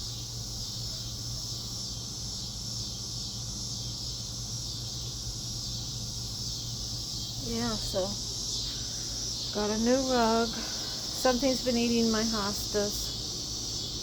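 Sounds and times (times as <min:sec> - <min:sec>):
insect chorus chirring: 0:00.0 - 0:14.0
low steady hum: 0:00.0 - 0:14.0.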